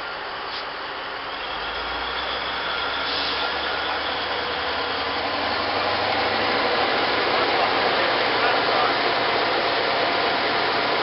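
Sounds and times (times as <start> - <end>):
haul truck diesel engine straining: 0.0 - 11.0.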